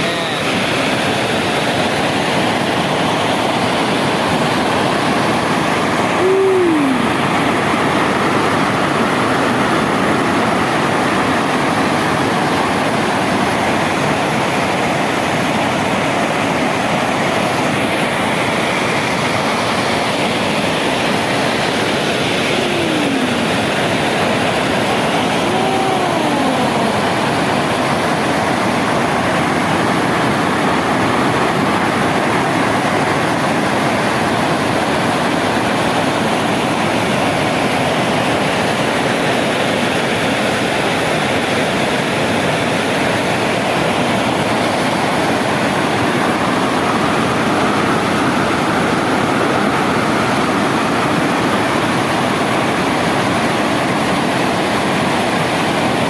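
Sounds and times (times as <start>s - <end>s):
water pouring over waterfall: 0.0s - 56.0s.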